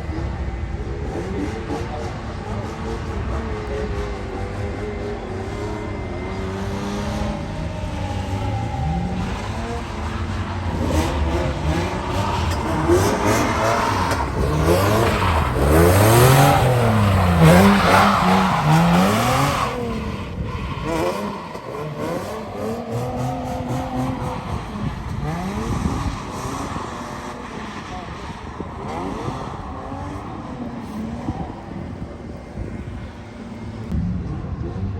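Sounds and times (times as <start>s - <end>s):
car engine revving hard: 0.0s - 33.9s.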